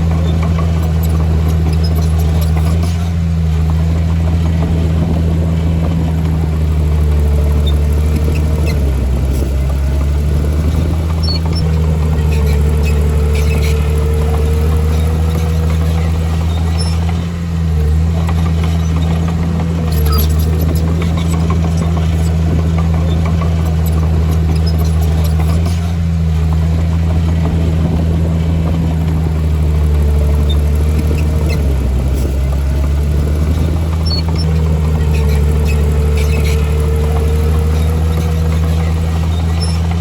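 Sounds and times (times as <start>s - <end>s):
heavy machinery diesel engine: 0.0s - 40.0s.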